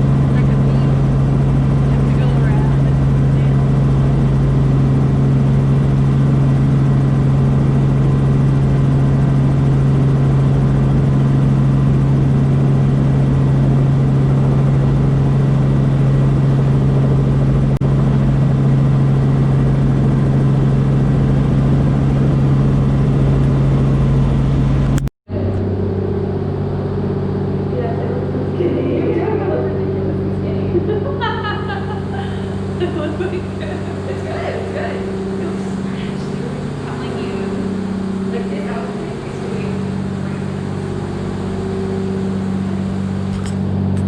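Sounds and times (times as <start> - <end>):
helicopter cabin drone: 0.0 - 44.0.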